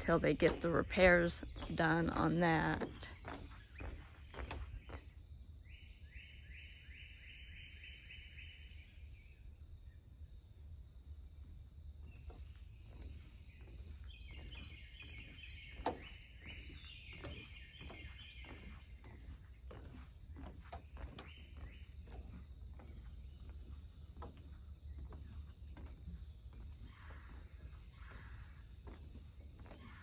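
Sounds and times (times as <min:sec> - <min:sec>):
footsteps on wooden boardwalk: 0:00.0 - 0:30.0.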